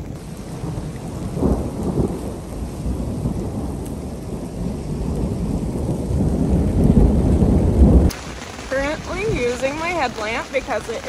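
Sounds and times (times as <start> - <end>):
rain falling: 0.0 - 11.0
thunder rumbling: 0.0 - 11.0.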